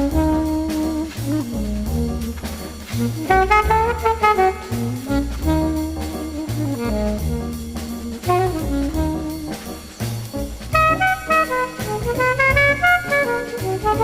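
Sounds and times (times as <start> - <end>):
jazz music with horn: 0.0 - 14.0.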